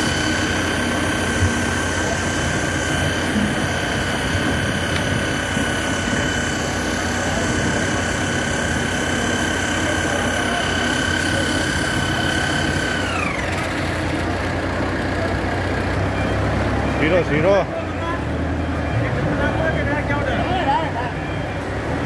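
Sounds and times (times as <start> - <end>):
high motor whine: 0.0 - 22.0
machinery rumble: 0.0 - 22.0.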